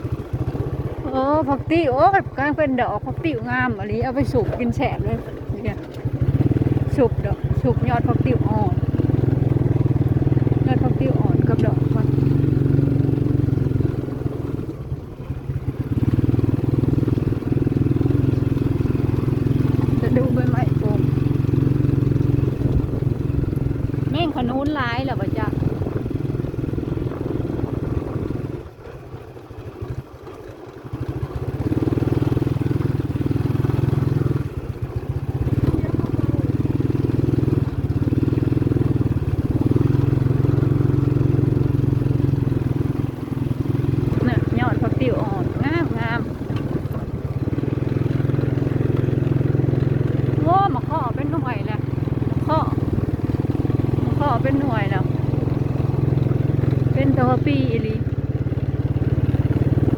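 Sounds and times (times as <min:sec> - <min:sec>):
small motorcycle engine running: 0:00.0 - 0:59.9.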